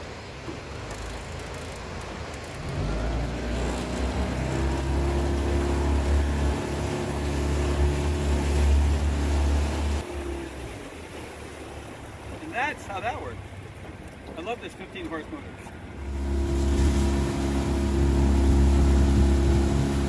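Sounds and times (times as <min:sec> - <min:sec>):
outboard motor at high throttle: 0:00.0 - 0:20.0
rushing water: 0:00.0 - 0:20.0
wind: 0:00.0 - 0:20.0.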